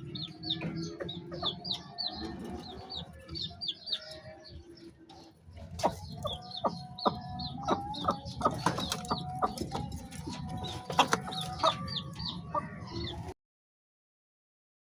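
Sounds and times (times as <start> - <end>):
chickens clucking: 0.0 - 13.4.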